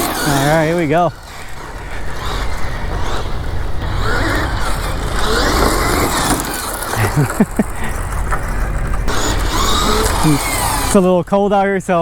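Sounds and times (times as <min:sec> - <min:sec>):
rc car motor whine: 0:00.0 - 0:11.3
tire and ground noise: 0:00.0 - 0:12.0.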